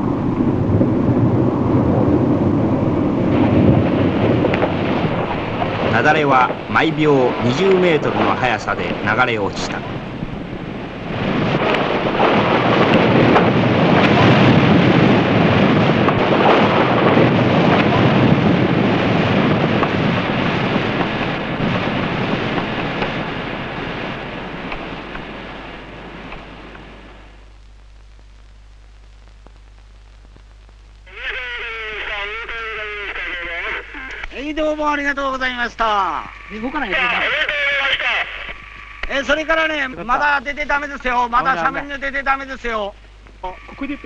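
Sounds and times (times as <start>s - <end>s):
avalanche rushing down slope: 0.0s - 27.3s, 31.1s - 44.0s.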